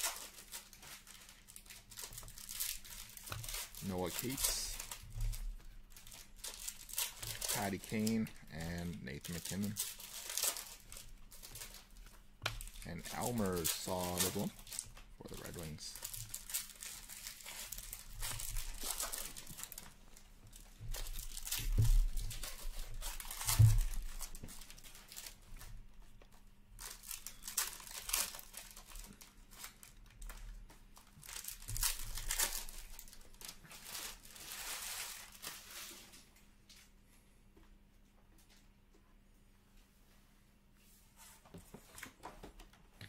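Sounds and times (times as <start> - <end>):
foil wrappers tearing and crinkling: 0.0 - 25.8, 26.8 - 36.3.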